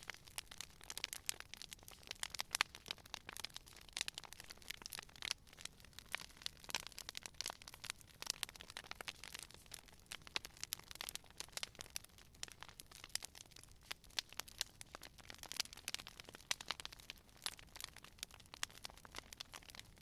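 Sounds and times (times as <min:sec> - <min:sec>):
campfire crackling: 0:00.0 - 0:20.0
faint steady hiss: 0:00.0 - 0:20.0.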